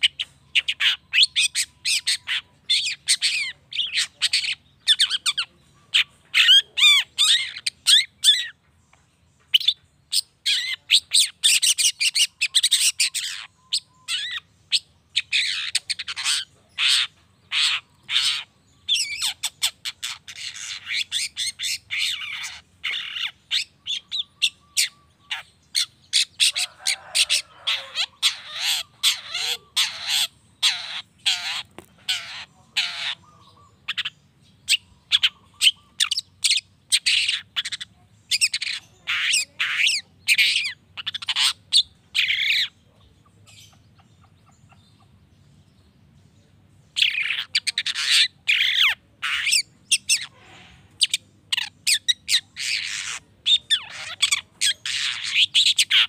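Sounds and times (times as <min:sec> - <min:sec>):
bird chattering and warbling song: 0:00.0 - 0:56.0.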